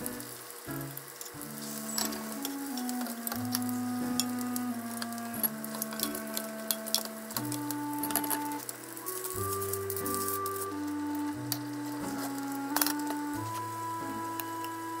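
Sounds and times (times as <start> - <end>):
soft background music chords: 0.0 - 15.0.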